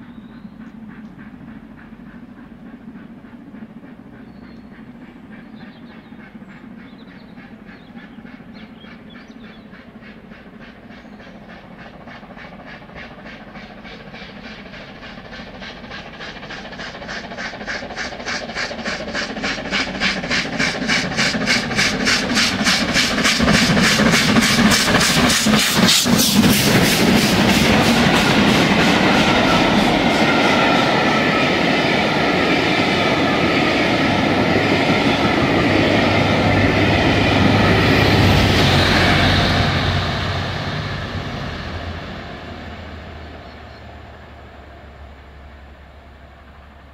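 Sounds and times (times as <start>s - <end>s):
steam locomotive exhaust beats: 0.0s - 46.9s.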